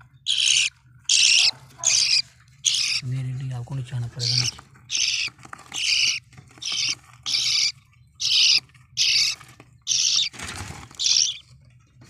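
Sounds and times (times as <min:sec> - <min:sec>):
budgerigar squawking: 0:00.2 - 0:03.1, 0:04.1 - 0:11.5.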